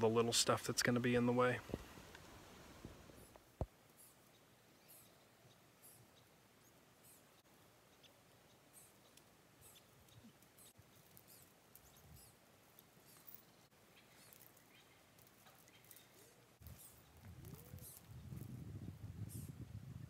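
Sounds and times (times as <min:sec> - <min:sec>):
small birds chirping: 0:03.1 - 0:19.8.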